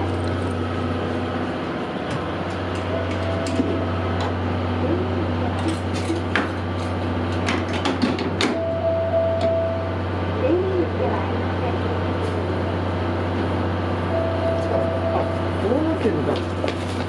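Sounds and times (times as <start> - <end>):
low train equipment hum: 0.0 - 17.0.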